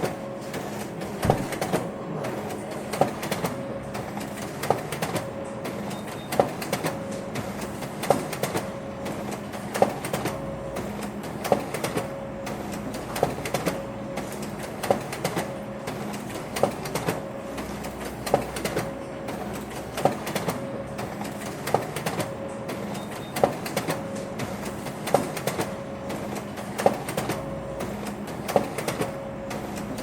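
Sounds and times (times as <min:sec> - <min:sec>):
printer clatter: 0:00.0 - 0:30.0
printer clicking: 0:00.0 - 0:30.0
printer humming: 0:00.0 - 0:30.0.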